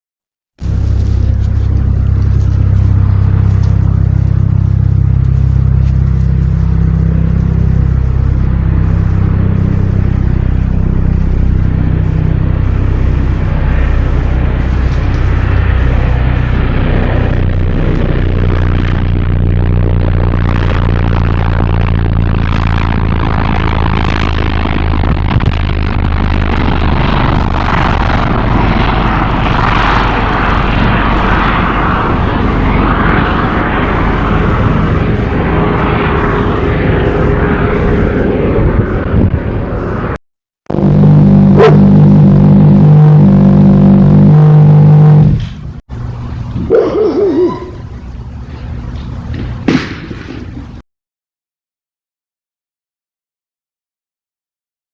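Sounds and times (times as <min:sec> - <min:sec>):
low engine-like drone: 0:00.6 - 0:50.8.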